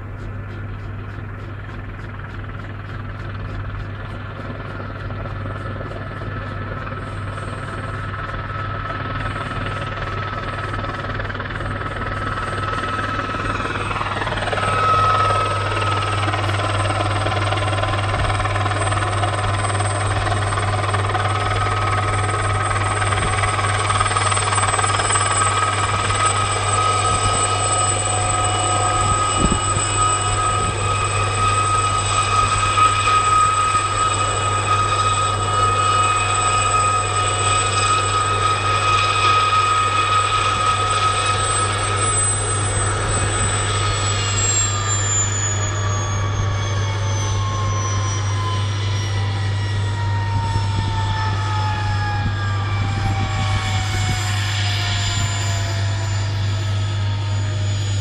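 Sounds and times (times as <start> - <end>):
helicopter turbine whine and rotor: 0.0 - 58.0.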